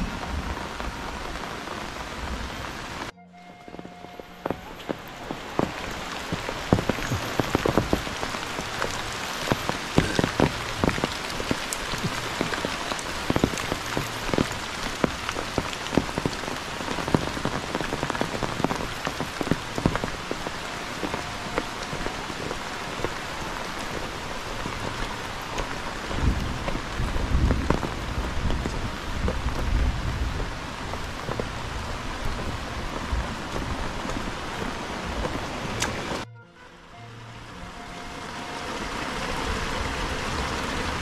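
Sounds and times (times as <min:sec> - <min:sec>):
heavy rain falling: 0:00.0 - 0:36.3, 0:37.1 - 0:41.0
large raindrops tapping: 0:00.0 - 0:36.3.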